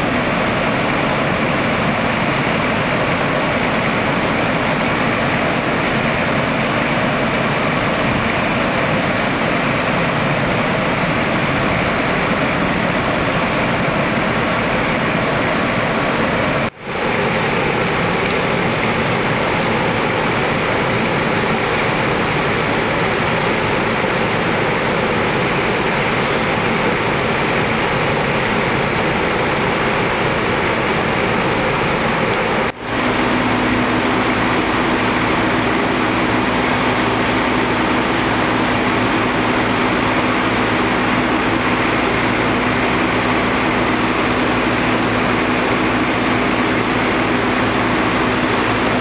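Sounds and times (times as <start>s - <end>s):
rescue equipment engine rushing: 0.0s - 49.0s.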